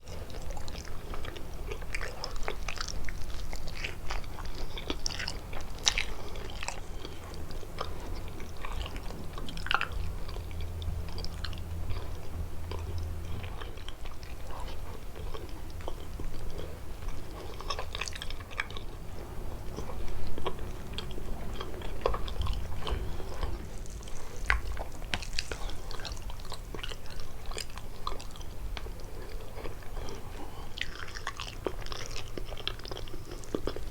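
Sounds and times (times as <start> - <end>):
chewing and crunching: 0.0 - 33.9.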